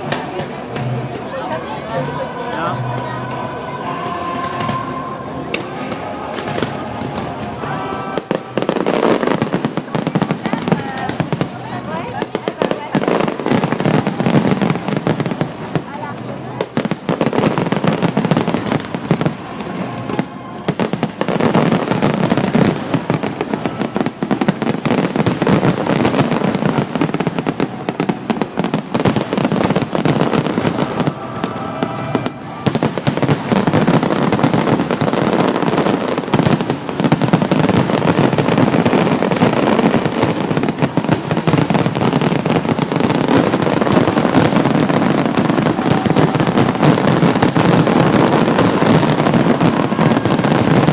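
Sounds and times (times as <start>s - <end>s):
fireworks bangs and crackling: 0.0s - 50.9s.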